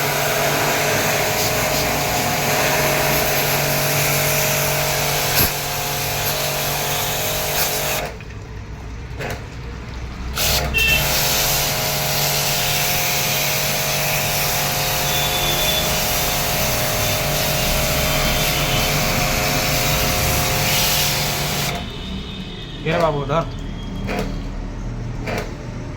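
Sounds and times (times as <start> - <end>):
washing machine running: 0.0 - 25.9.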